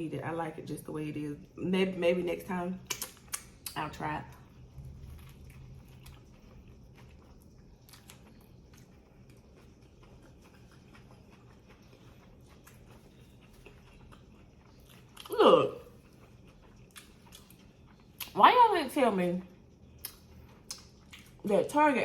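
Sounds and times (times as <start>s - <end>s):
chewing sandwich: 2.8s - 18.4s, 19.4s - 21.5s.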